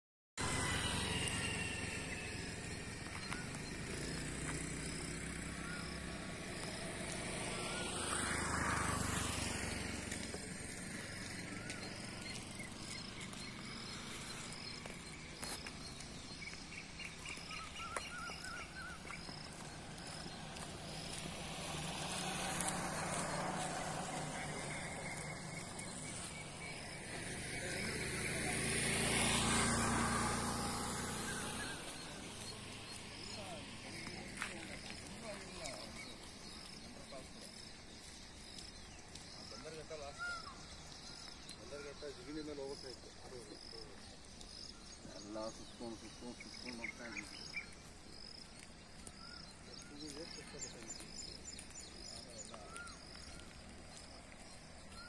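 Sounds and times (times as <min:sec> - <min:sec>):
birds calling: 0:00.4 - 0:55.0
distant road traffic: 0:00.4 - 0:55.0.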